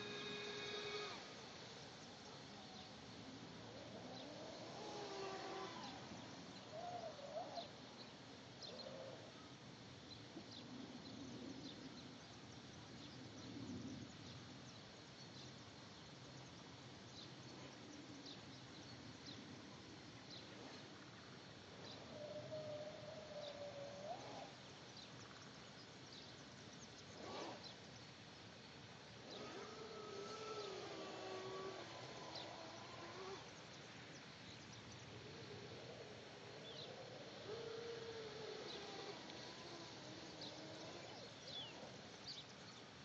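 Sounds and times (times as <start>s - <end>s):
faint outdoor background noise: 0.0s - 43.0s.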